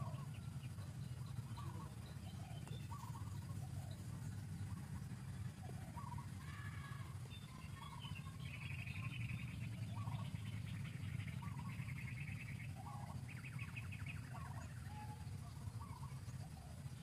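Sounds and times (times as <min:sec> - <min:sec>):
birdsong trills and chirps: 0:00.0 - 0:17.0
steady low rumble: 0:00.0 - 0:17.0.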